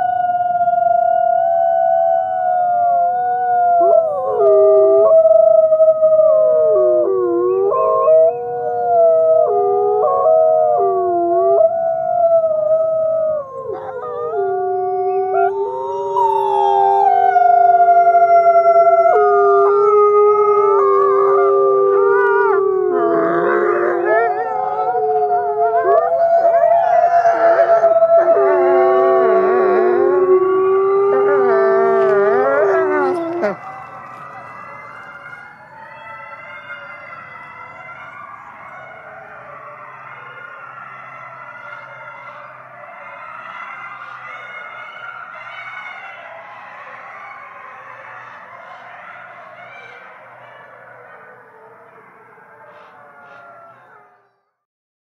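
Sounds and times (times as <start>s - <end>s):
wolves howling: 0.0s - 54.4s.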